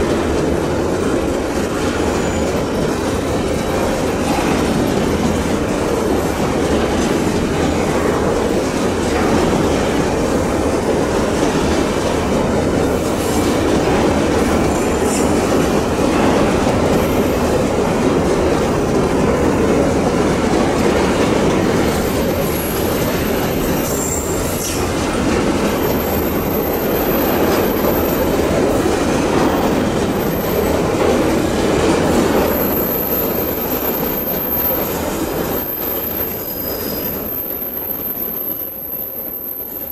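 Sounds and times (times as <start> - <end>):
freight wagons rolling on rails: 0.0 - 39.9.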